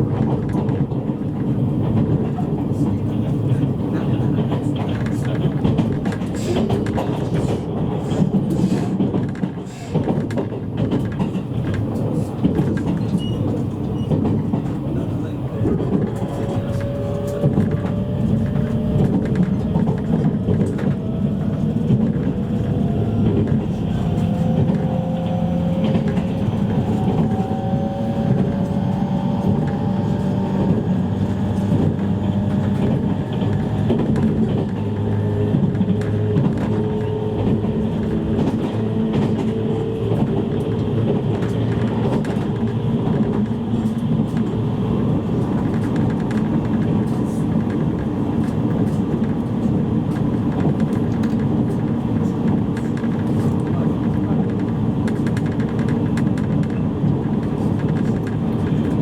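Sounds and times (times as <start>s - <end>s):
train car rumbling on rails: 0.0s - 59.0s.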